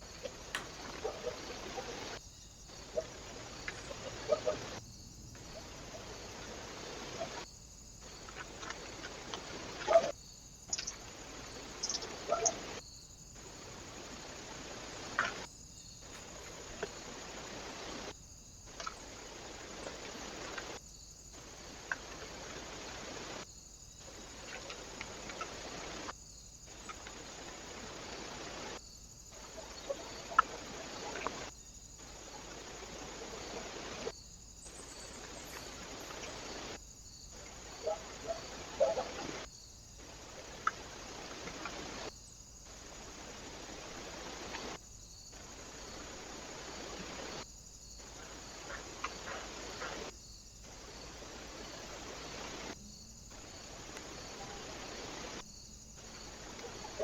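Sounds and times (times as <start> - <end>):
microphone hiss: 0.0 - 57.0.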